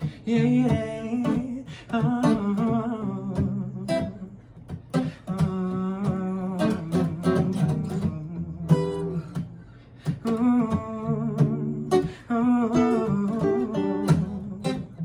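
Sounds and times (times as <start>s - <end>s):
acoustic guitar strummed: 0.0s - 15.0s
wordless singing and humming: 0.0s - 15.0s.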